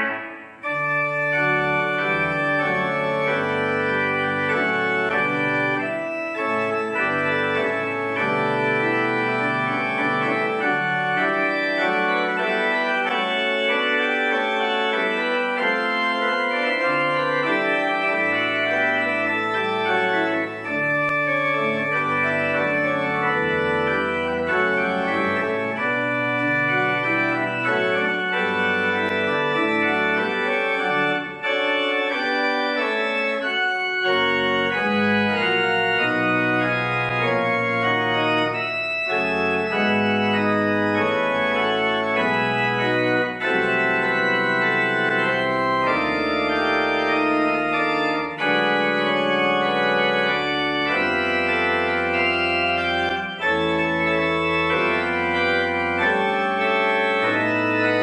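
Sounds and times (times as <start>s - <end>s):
church organ chords: 0.0s - 58.0s.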